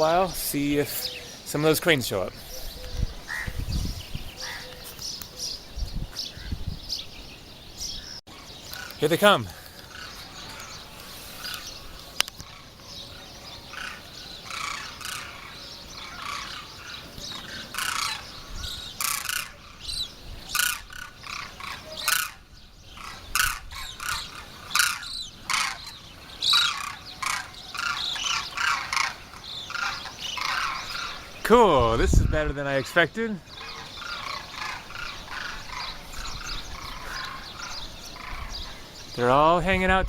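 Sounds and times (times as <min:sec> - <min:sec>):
cranes calling: 0:00.0 - 0:39.6.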